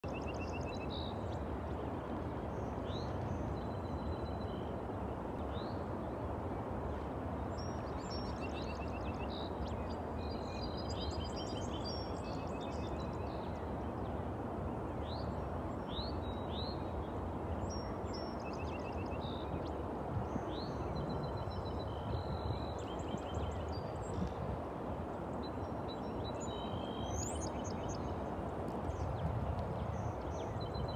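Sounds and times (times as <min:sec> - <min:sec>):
songbirds chirping and trilling: 0:00.0 - 0:30.9.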